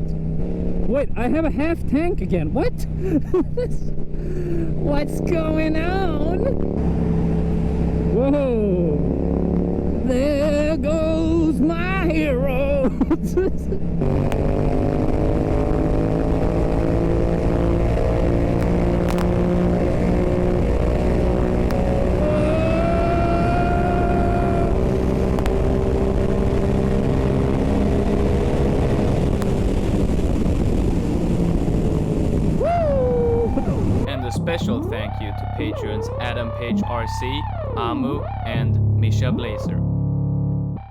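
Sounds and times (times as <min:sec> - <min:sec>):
motorcycle engine cruising: 0:00.0 - 0:40.9
higher whine: 0:02.8 - 0:40.9.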